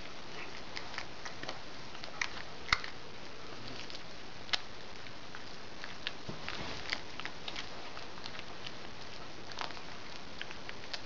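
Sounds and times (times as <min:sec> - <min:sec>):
cat chewing and crunching: 0:00.0 - 0:11.0.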